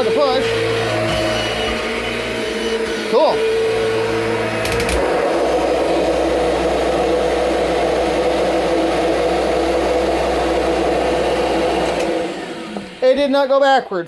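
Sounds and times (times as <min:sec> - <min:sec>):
vacuum cleaner whirring: 0:00.0 - 0:13.8.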